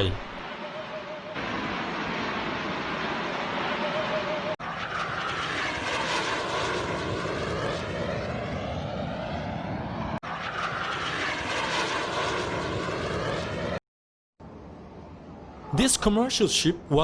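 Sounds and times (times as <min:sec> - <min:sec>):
aircraft engine in flight: 0:00.0 - 0:13.8, 0:14.4 - 0:17.0.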